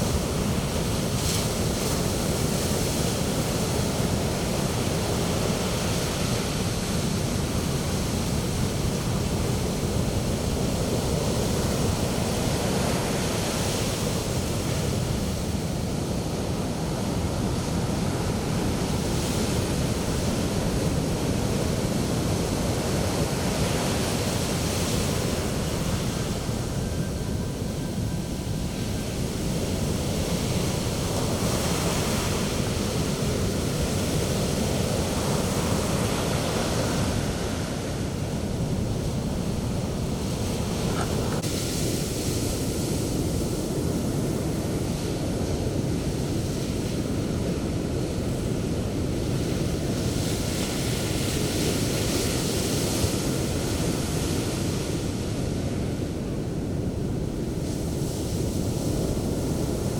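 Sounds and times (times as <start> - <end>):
sea waves breaking on a beach: 0.0 - 59.9
wind on the microphone: 0.0 - 59.9.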